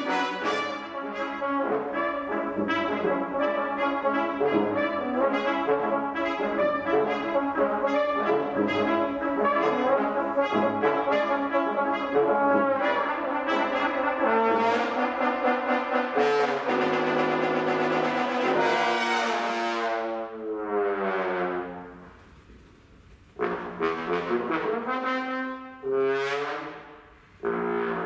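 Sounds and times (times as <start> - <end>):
brass ensemble playing: 0.0 - 22.2, 23.3 - 28.0.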